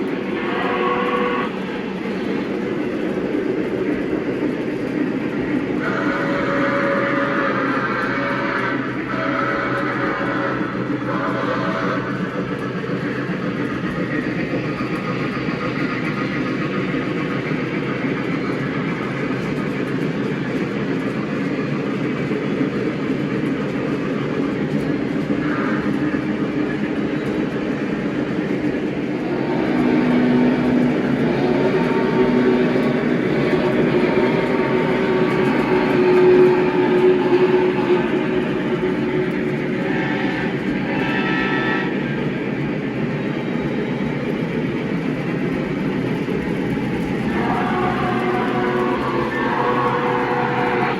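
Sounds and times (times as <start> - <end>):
model train wheels rumbling on rail: 0.0 - 50.9.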